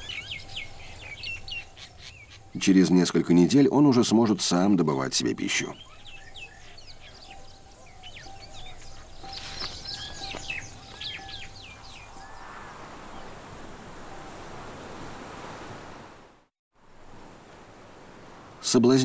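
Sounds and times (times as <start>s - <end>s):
birds chirping: 0.0s - 15.3s.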